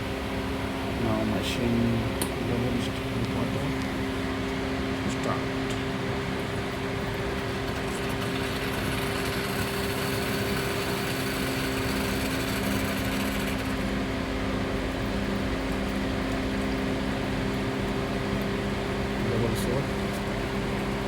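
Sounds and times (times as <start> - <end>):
espresso machine pump buzzing: 0.0 - 21.0.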